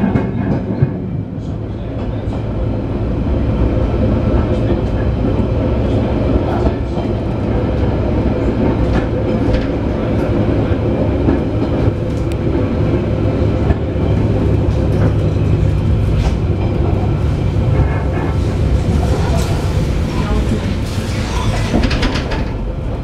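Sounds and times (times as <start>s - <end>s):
train carriage rumbling on track: 0.0s - 23.0s.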